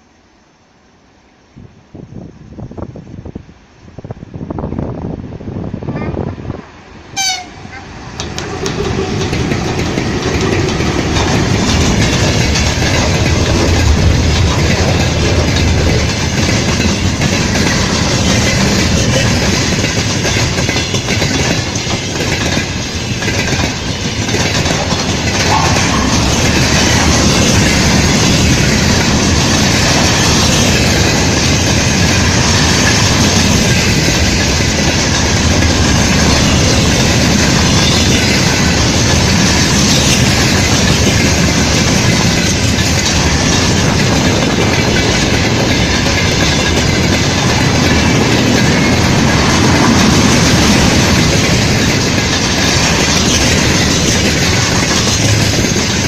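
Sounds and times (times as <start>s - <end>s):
train wheels clacking on rails: 7.2s - 56.0s.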